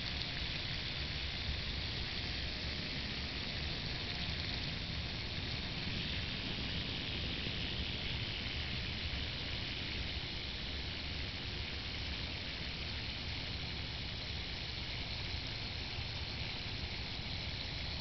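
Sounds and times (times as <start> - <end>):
yo-yo spinning whir: 0.0 - 18.0.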